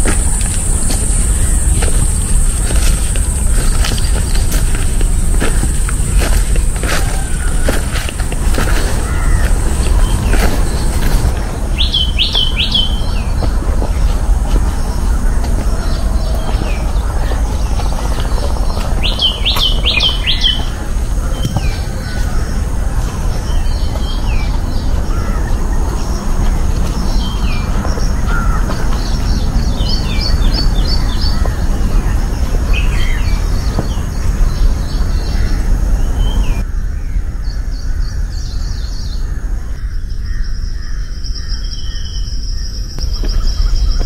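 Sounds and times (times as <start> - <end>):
birds chirping: 0.0 - 44.0
low rumble: 0.0 - 44.0.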